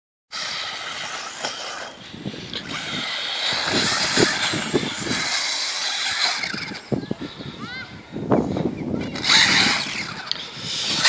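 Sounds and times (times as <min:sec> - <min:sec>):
small electric motor whining: 0:00.3 - 0:07.6, 0:09.0 - 0:11.0.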